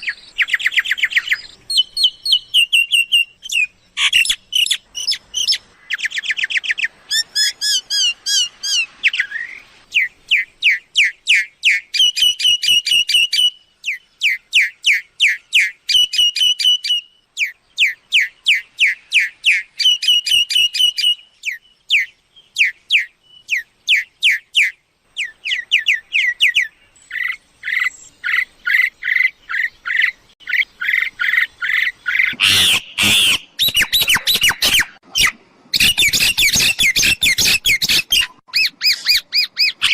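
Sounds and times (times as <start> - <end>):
myna whistled chirps: 0.0 - 39.9.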